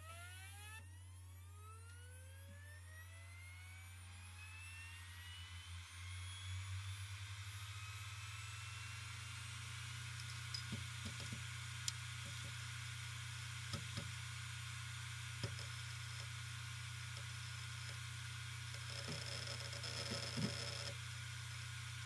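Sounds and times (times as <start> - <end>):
hard drive whine: 0.0 - 22.0
hard drive humming: 3.8 - 22.0.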